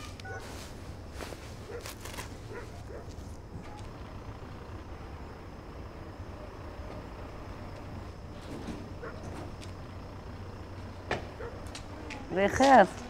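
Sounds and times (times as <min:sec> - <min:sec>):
distant city traffic rumble: 0:00.0 - 0:13.0.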